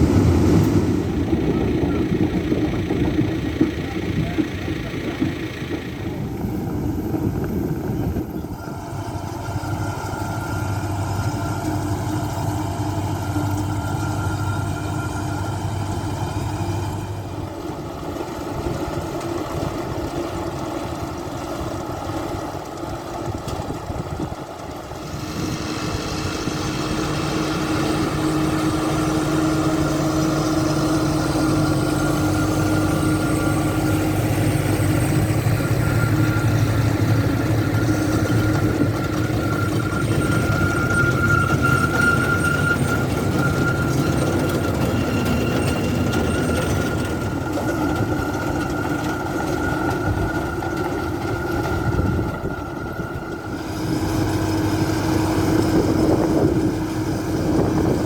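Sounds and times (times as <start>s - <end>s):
machinery whine: 0.0s - 58.0s
tractor engine running: 0.0s - 58.0s.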